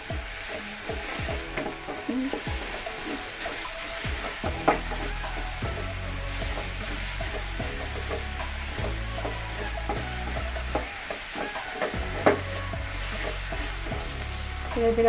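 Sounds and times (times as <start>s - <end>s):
vegetables sizzling in pan: 0.0s - 15.0s.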